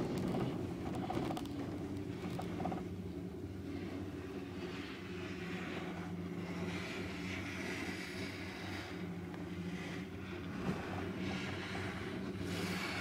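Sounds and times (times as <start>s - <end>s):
gondola cabin hum and rushing: 0.0s - 13.0s.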